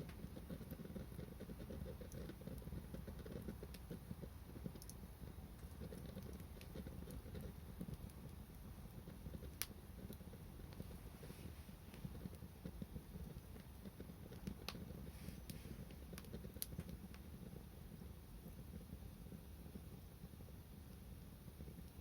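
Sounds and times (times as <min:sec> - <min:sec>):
bonfire flames rumbling: 0:00.0 - 0:22.0
fire crackles: 0:00.0 - 0:22.0.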